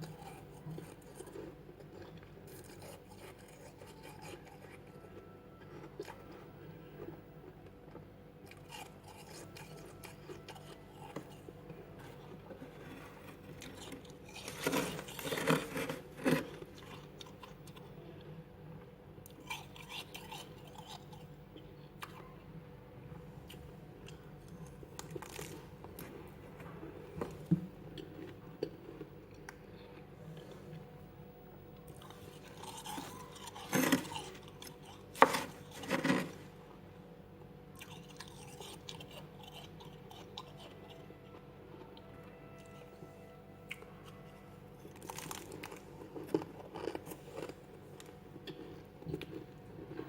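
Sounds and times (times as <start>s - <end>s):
frost being bitten and chewed: 0.0s - 17.9s, 19.2s - 22.2s, 23.4s - 30.5s, 31.7s - 36.4s, 37.7s - 42.8s, 43.6s - 50.0s.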